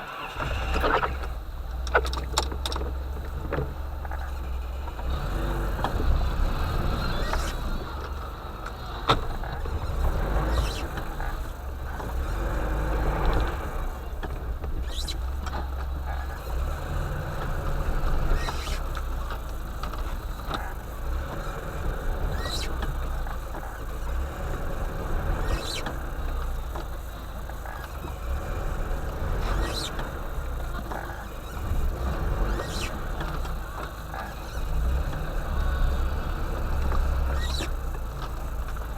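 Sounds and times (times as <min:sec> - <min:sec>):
vehicle engine idling low: 0:00.0 - 0:38.9.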